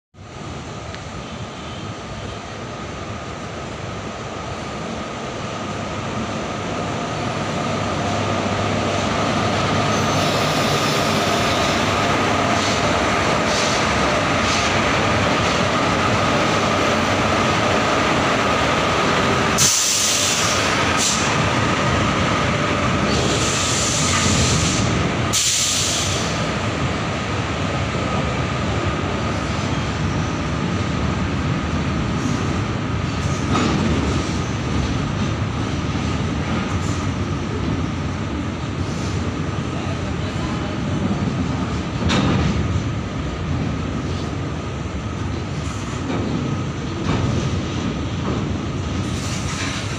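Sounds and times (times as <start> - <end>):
freight train rumbling on rails: 0.2 - 49.9.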